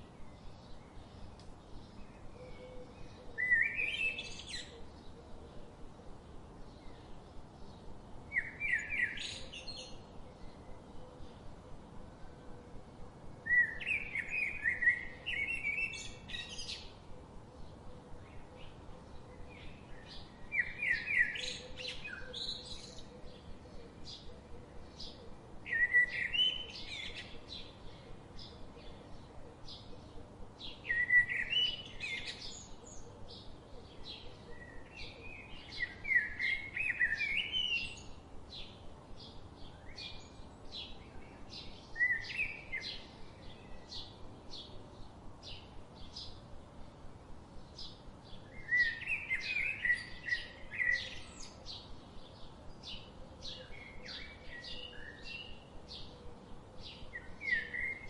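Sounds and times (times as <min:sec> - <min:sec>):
bird warbling song: 0:00.0 - 0:05.7, 0:06.6 - 0:12.0, 0:13.4 - 0:46.4, 0:47.6 - 0:58.0.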